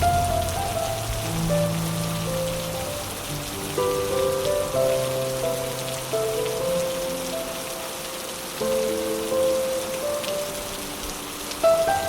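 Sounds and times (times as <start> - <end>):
soft music of held notes: 0.0 - 12.0
steady rain falling: 0.0 - 12.0.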